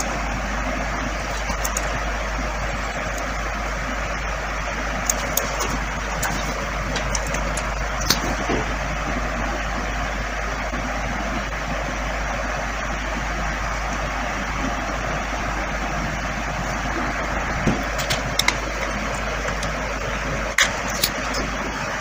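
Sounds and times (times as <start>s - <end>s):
low hum: 0.0s - 22.0s
steady rushing noise: 0.0s - 22.0s.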